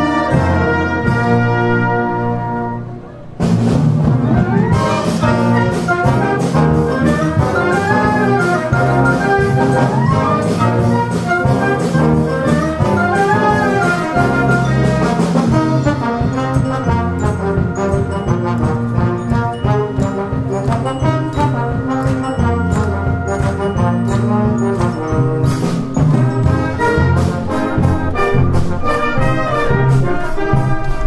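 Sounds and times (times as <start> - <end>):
concert band playing: 0.0 - 31.0
steady drum beat: 3.3 - 31.0.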